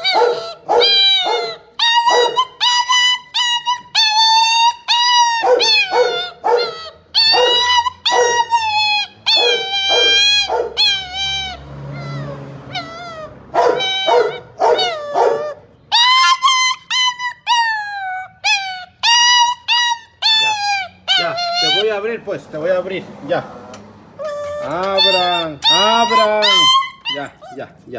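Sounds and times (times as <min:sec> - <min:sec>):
puppy whining: 0:00.0 - 0:22.2, 0:23.2 - 0:27.9.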